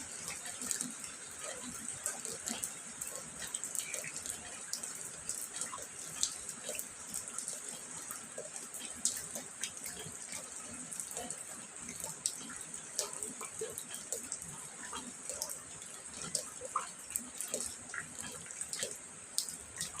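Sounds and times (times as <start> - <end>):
raindrops ticking and splashing: 0.0 - 20.0
steady rain hiss: 0.0 - 20.0.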